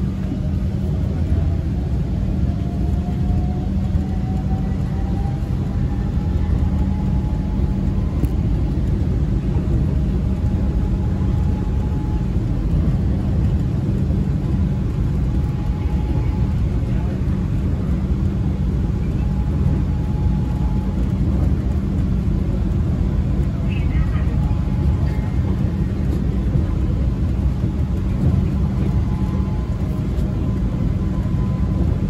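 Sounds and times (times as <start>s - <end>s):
faint motor whine: 0.0s - 32.0s
train low rumble: 0.0s - 32.0s.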